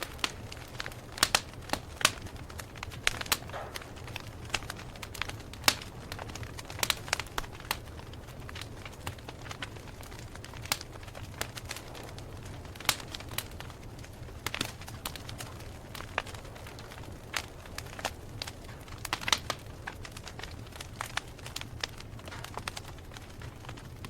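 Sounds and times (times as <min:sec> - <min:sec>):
burning wood popping: 0:00.0 - 0:24.0.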